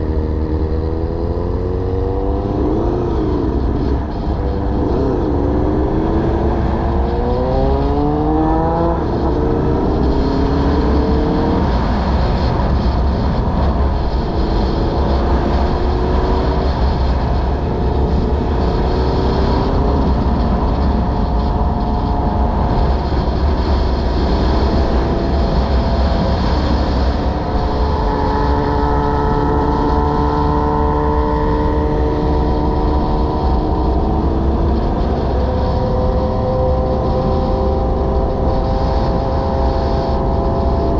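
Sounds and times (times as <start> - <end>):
motorcycle engine accelerating: 0.0 - 40.9
wind rumble on microphone: 0.0 - 40.9.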